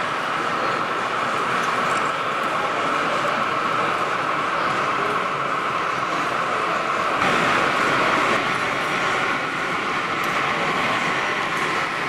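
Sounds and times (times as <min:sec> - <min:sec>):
busy exhibition hall noise: 0:00.0 - 0:12.0
model trains running: 0:00.0 - 0:12.0.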